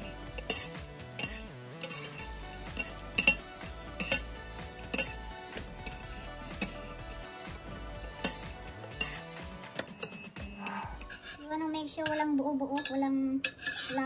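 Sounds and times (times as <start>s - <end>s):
background music: 0.0s - 14.0s
metal spoon scraping saucepan: 0.0s - 14.0s.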